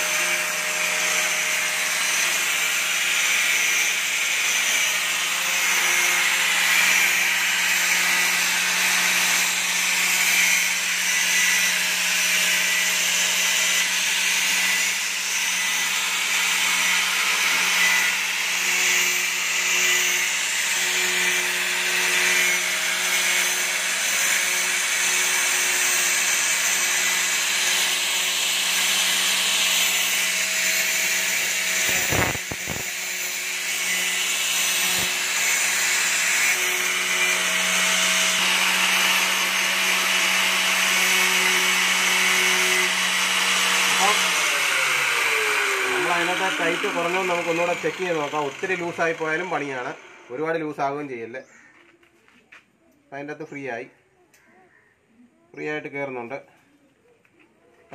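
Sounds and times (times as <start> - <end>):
angle grinder grinding metal: 0.0 - 51.9.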